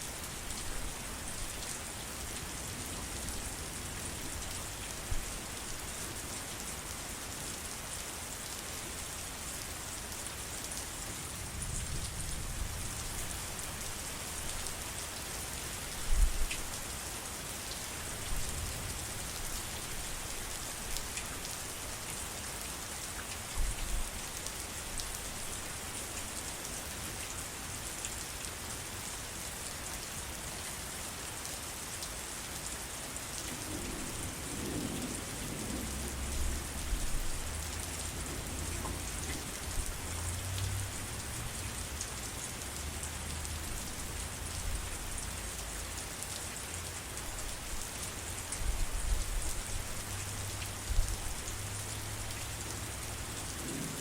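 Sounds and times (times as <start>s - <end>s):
rain falling on foliage: 0.0s - 54.0s.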